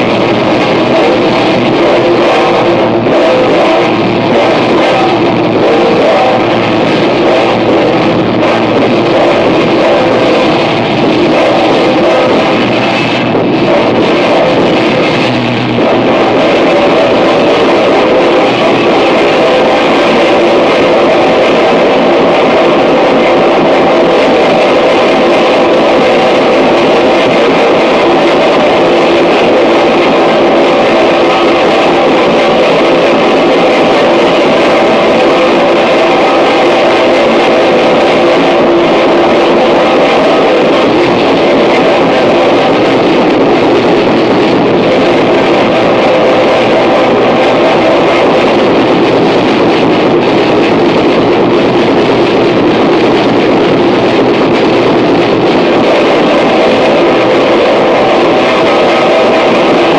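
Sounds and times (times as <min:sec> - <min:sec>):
droning tones: 0:00.0 - 0:59.9
harsh distorted noise music: 0:00.0 - 0:59.9.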